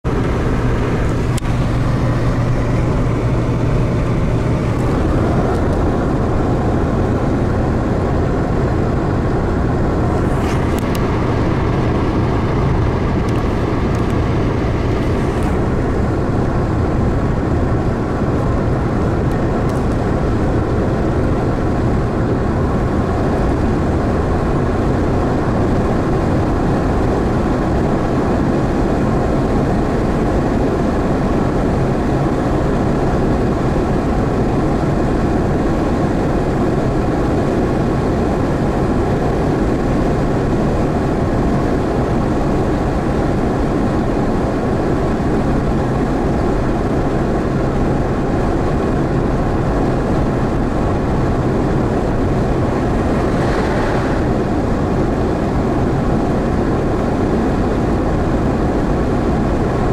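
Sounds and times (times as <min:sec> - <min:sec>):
car engine drone: 0:00.0 - 0:59.9
tyre and road noise: 0:00.0 - 0:59.9.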